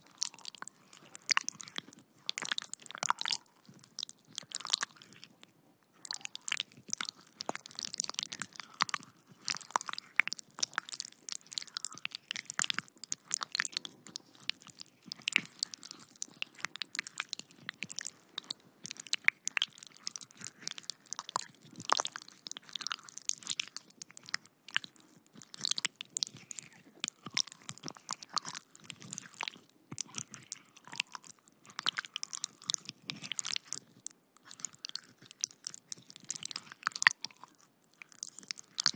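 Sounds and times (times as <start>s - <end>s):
crackles and crunches: 0.0s - 38.9s.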